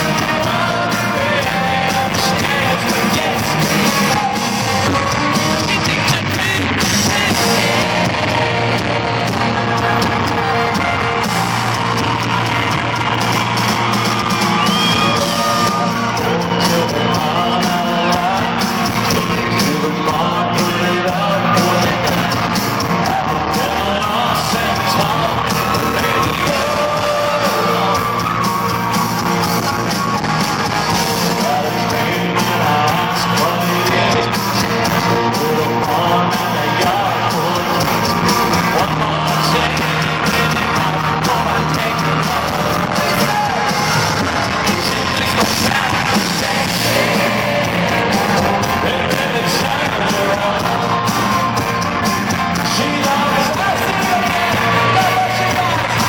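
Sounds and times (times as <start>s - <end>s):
crowd singing along: 0.0s - 56.0s
crowd yelling: 0.0s - 56.0s
live country band: 0.0s - 56.0s
person singing: 0.0s - 56.0s.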